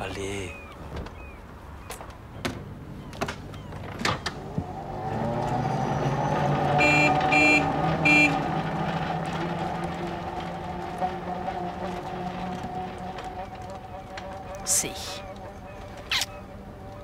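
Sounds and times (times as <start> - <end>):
vehicle motor hum: 0.7 - 17.0.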